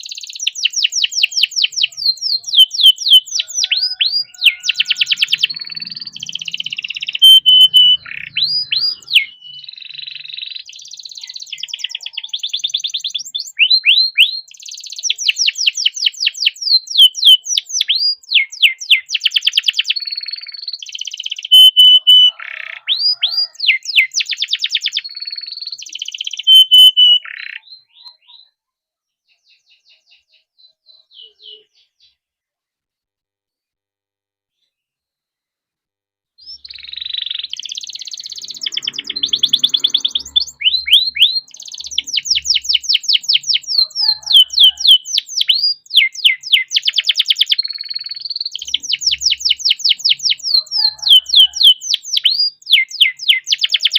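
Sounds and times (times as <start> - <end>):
canary singing trills: 0.0 - 28.6, 29.2 - 32.2, 36.4 - 53.9.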